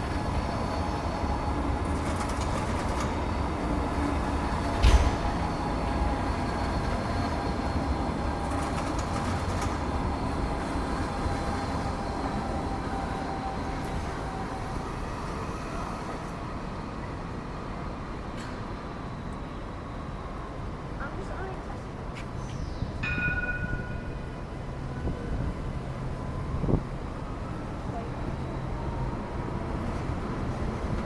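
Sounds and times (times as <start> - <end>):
tram rumbling: 0.0 - 31.0.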